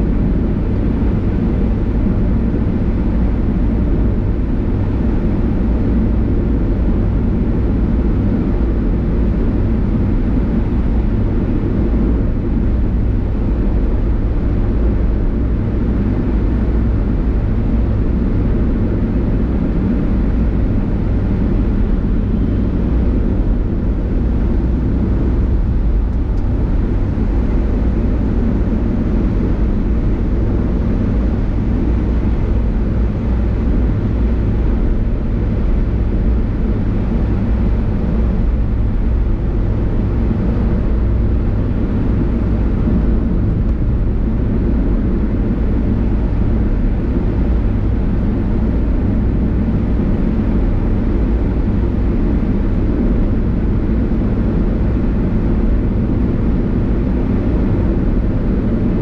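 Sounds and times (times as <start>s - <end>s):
car driving on a highway: 0.0s - 59.0s.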